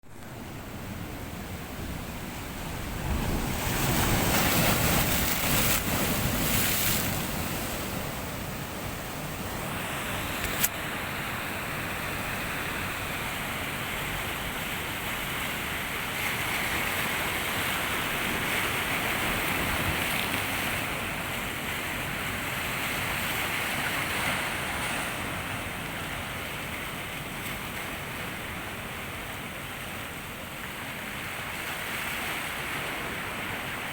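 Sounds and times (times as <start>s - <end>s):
sea waves washing ashore: 0.0s - 33.9s.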